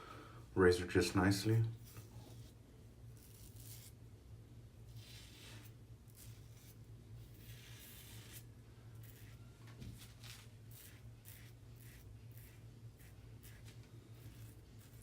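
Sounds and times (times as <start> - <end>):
razor scraping stubble: 1.8 - 4.0, 4.9 - 15.0.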